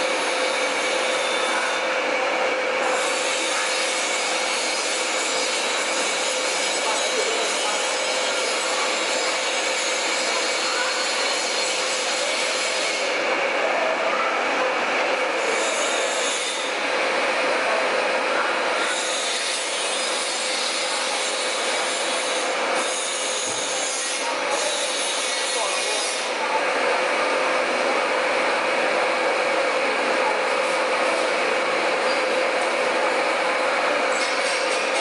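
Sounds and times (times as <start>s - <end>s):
cnc machine cutting: 0.0s - 35.0s.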